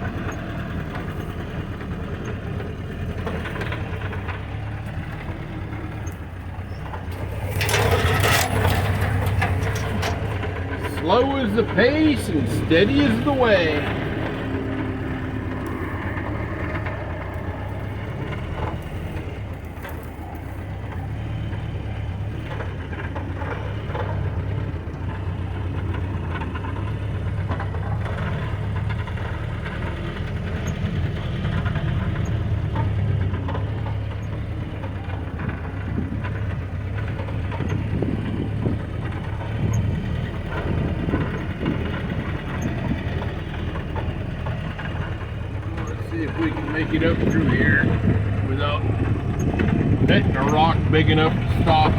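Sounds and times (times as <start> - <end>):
car engine running at low speed: 0.0 - 51.9
knocks and rattles: 6.8 - 51.9.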